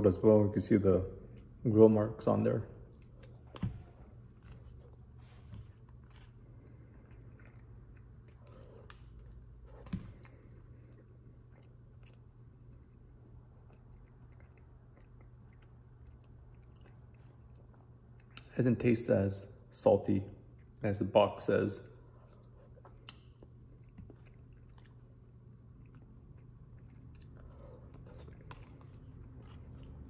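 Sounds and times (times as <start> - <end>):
person chewing food: 2.5 - 18.7, 20.4 - 20.9, 21.8 - 30.0.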